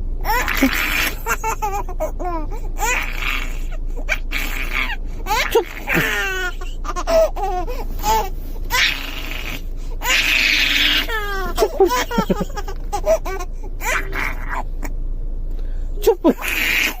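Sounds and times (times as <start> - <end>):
baby squealing: 0.3 - 12.4, 13.0 - 14.6, 16.4 - 17.0.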